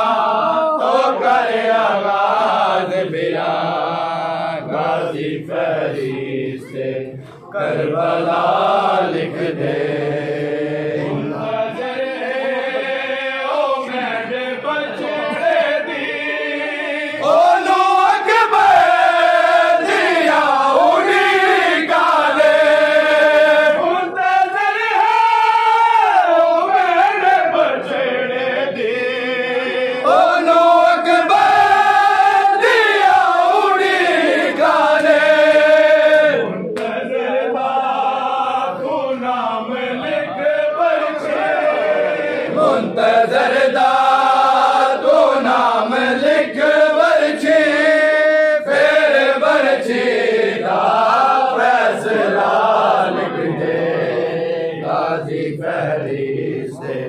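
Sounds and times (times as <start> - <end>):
men chanting in unison: 0.0 - 57.0.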